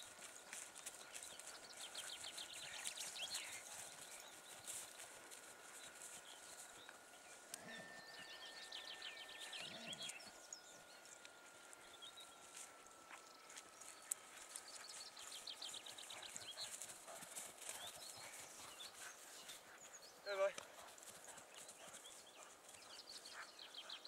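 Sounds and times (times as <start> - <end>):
thin steady high tone: 0.0 - 19.9.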